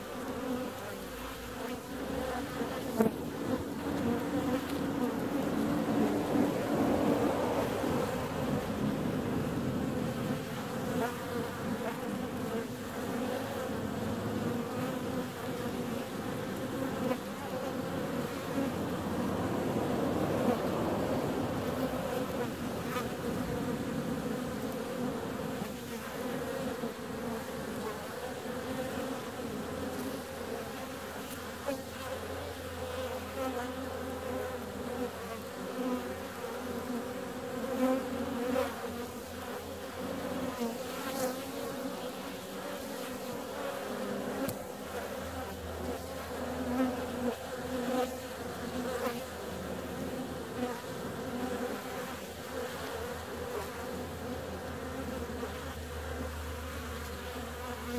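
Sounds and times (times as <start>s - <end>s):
bees buzzing: 0.1s - 57.9s.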